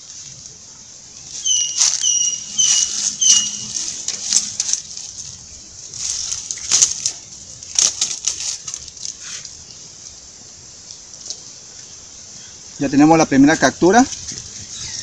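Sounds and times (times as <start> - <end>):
dry leaves crackling and rustling: 0.0 - 15.0.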